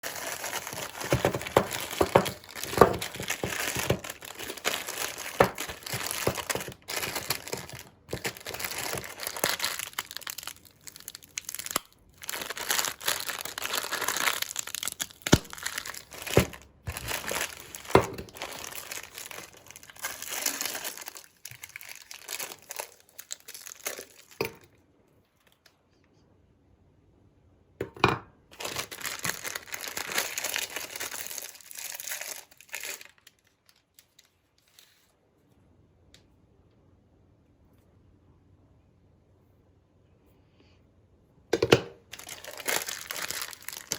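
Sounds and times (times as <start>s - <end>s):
crinkling and crumpling handling noise: 0.0s - 26.0s, 28.5s - 35.6s, 41.6s - 43.9s.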